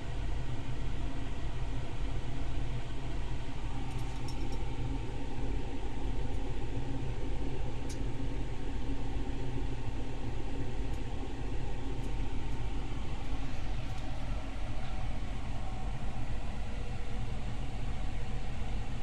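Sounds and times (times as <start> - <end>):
machinery low hum: 0.0 - 19.0.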